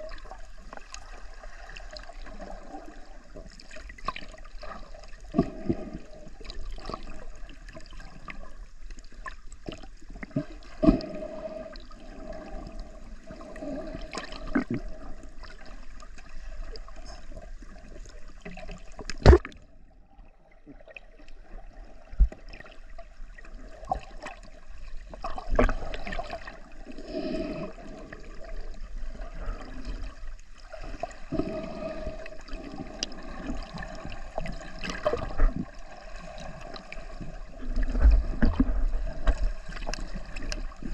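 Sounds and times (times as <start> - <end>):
underwater sloshing and gurgling: 0.0 - 40.9.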